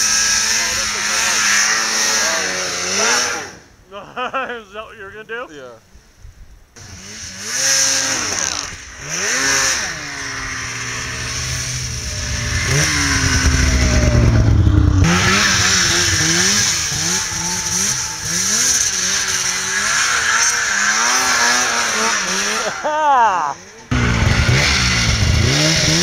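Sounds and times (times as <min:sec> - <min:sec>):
snowmobile engines revving: 0:00.0 - 0:05.8, 0:06.8 - 0:26.0.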